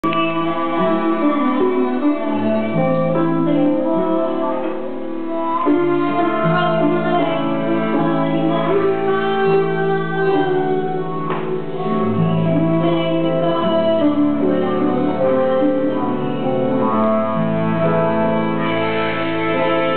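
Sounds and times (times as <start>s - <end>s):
acoustic guitar: 0.0s - 19.9s
electric guitar: 0.0s - 19.9s
violin: 0.0s - 19.9s.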